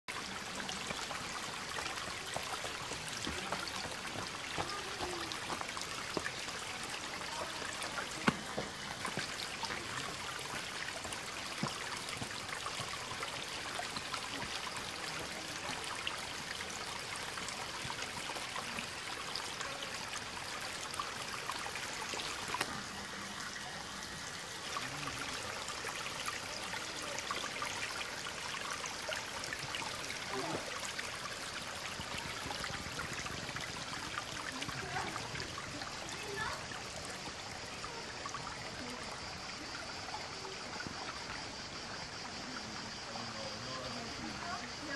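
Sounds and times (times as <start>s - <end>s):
stream trickling over stones: 0.1s - 44.9s.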